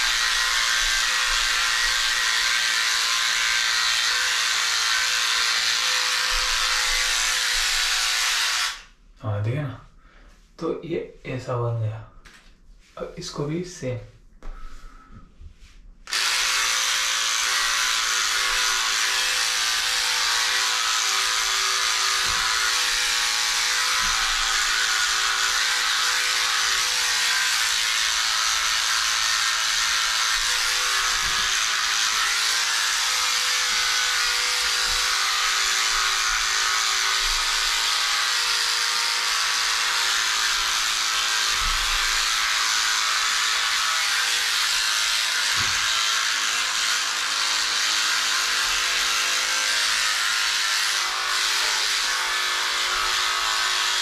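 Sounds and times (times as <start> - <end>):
electric hair trimmer running: 0.0 - 9.0, 16.1 - 54.0.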